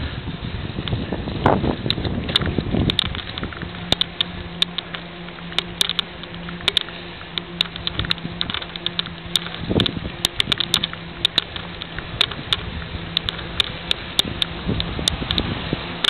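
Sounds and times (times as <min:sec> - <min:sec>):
louder rumble: 0:00.0 - 0:16.0
steady hiss and low hum: 0:00.0 - 0:16.0
bicycle clicks and rattles: 0:00.8 - 0:16.0.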